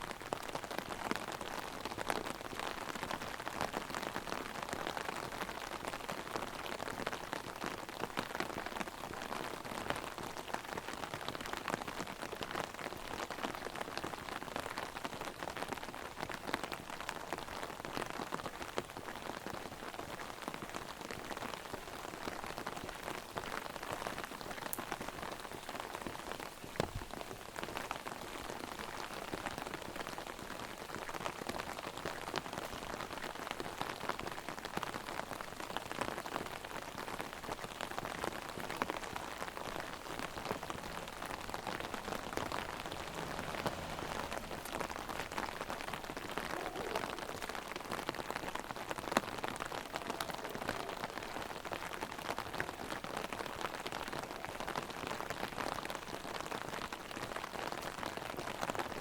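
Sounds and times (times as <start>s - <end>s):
rain pattering on umbrella: 0.0s - 59.0s.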